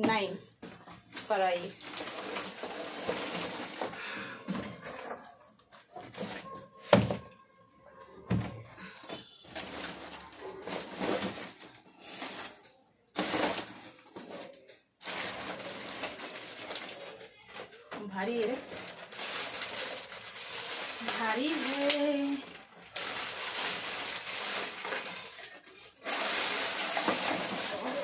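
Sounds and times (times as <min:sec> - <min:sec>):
cardboard and plastic rustling: 0:00.0 - 0:07.4, 0:08.2 - 0:28.0.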